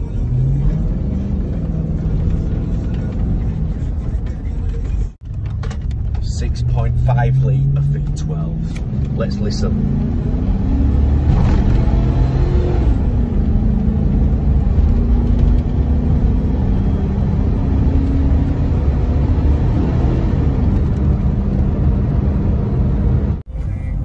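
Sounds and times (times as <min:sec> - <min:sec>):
deep engine and exhaust: 0:00.0 - 0:24.0.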